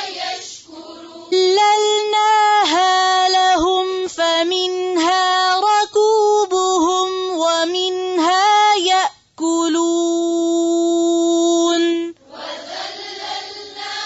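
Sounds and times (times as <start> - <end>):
woman singing wordless high tone: 0.9 - 12.2.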